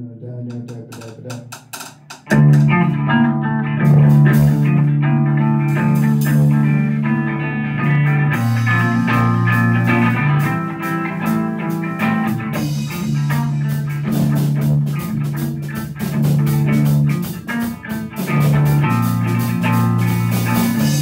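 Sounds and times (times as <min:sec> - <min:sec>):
drum kit: 0:00.5 - 0:21.0
electric guitar long notes: 0:02.3 - 0:21.0.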